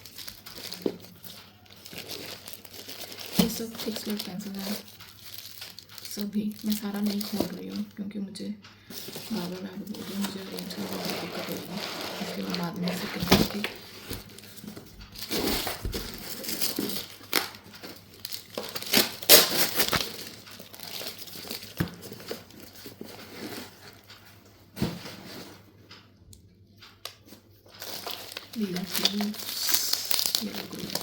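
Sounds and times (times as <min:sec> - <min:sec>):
packaging crinkling and rustling: 0:00.0 - 0:08.0, 0:08.9 - 0:25.7, 0:27.1 - 0:31.0.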